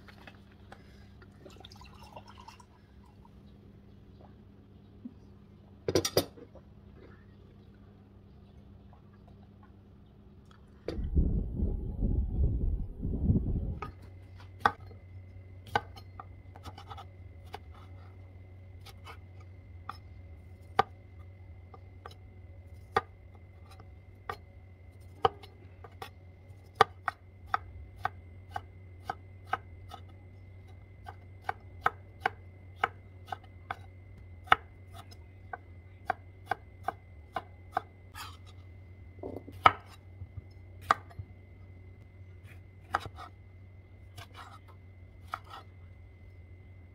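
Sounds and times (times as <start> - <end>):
steady low hum: 0.0 - 46.9
faint high whine: 6.5 - 46.9.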